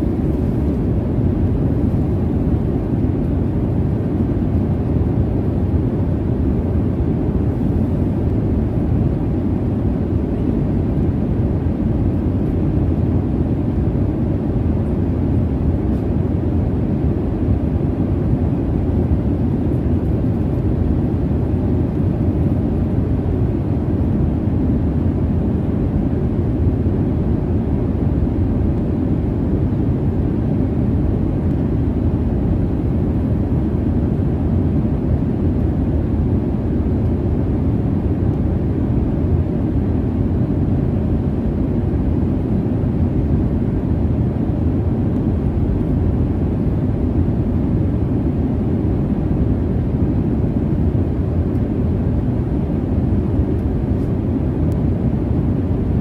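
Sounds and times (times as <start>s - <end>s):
airliner cabin jet engine rumble: 0.0s - 56.0s.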